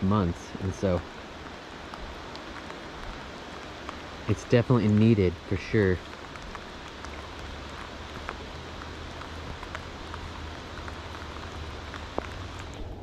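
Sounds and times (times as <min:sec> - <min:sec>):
rain on river surface: 0:00.0 - 0:13.0.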